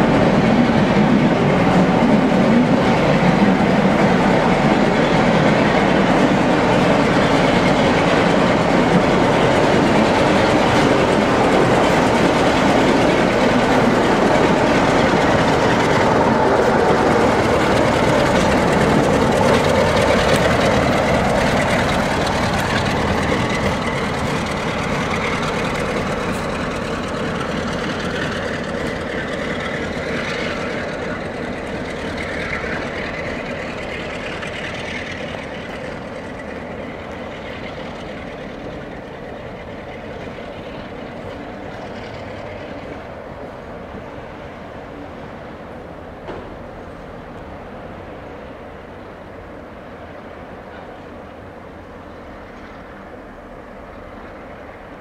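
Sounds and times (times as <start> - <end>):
diesel locomotive engine running: 0.0 - 55.0
train wheels on rails: 0.0 - 55.0.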